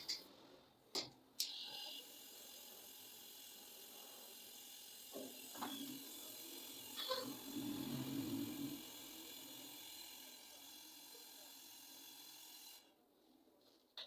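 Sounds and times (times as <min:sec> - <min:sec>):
gas hissing through pipes: 0:01.4 - 0:12.9.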